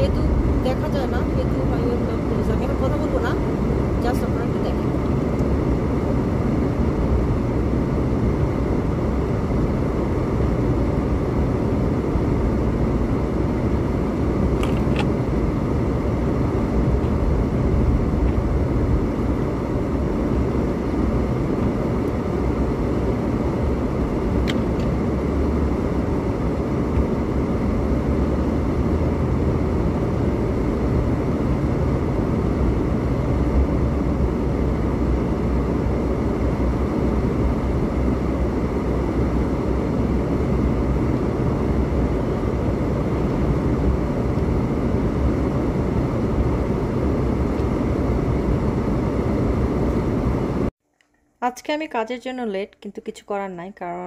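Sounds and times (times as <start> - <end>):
car cabin road rumble: 0.0 - 8.1, 8.7 - 50.5.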